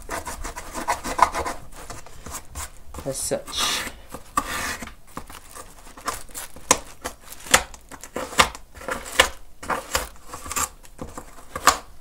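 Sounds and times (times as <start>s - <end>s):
light scratching: 0.0s - 11.8s.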